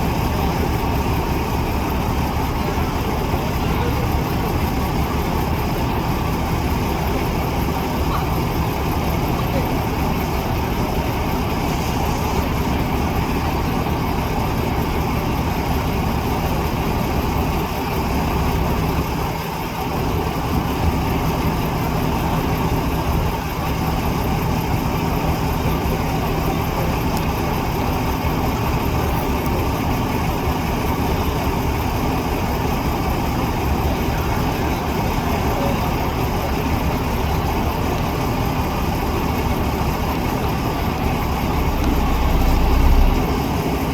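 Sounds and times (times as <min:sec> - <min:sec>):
truck engine running at low revs: 0:00.0 - 0:43.9.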